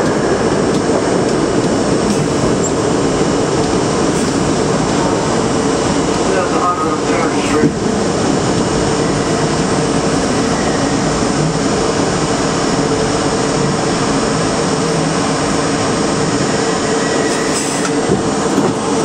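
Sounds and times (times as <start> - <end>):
train motor hum: 0.0 - 19.0
train wheels on rails: 0.0 - 19.0.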